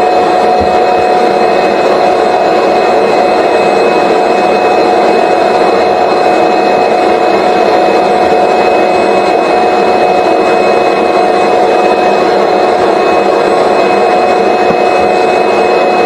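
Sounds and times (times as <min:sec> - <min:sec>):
vacuum cleaner motor whining: 0:00.0 - 0:16.0.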